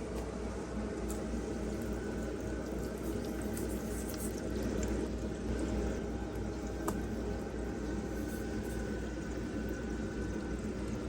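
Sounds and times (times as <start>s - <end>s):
water bubbling and trickling: 1.3s - 11.0s.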